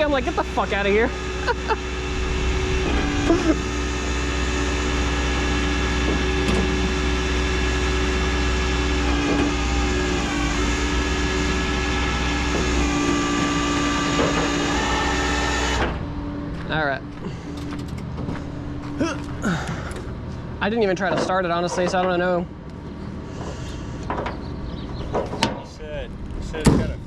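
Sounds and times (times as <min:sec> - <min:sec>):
engine drone: 0:00.0 - 0:27.0
road noise rumble in cab: 0:00.0 - 0:27.0.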